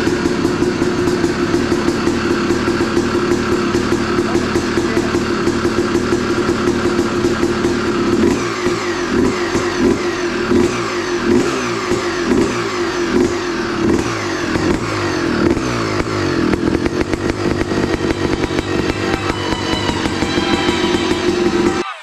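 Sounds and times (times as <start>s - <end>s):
two-stroke engine revving: 0.0s - 21.8s.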